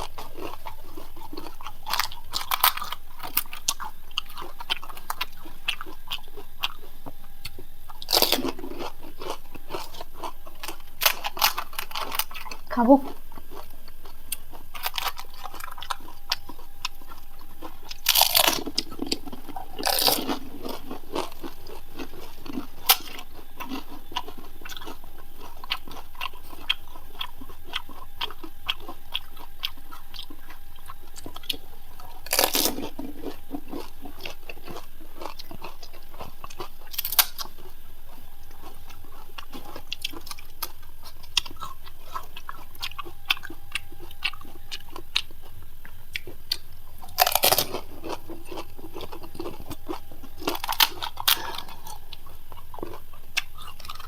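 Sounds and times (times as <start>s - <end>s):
crisp shells being chewed: 0.0s - 54.0s.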